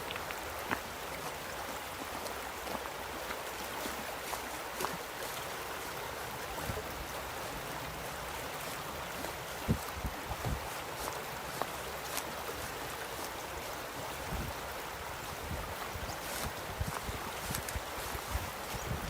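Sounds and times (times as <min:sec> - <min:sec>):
river water flowing over rocks: 0:00.0 - 0:19.0.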